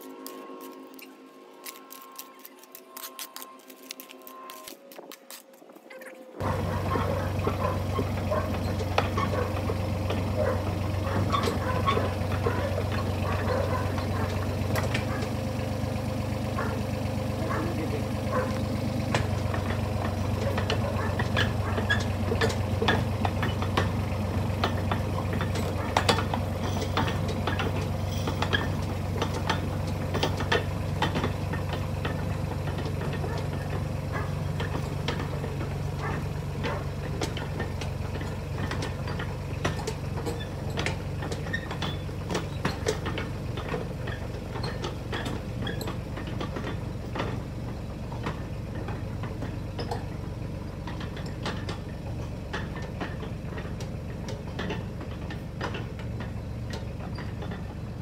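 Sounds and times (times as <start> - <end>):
excavator engine running: 0.0 - 58.0
tracks clanking and rattling: 0.0 - 58.0.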